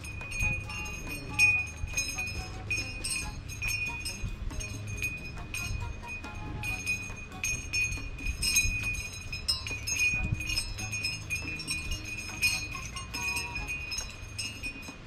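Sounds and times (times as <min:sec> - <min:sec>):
steady high tone: 0:00.0 - 0:15.0.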